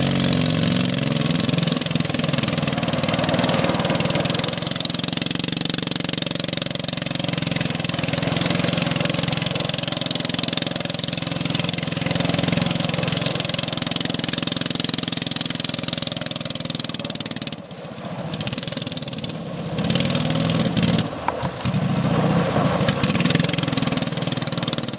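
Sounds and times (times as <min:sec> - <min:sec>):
rc truck engine running: 0:00.0 - 0:24.9.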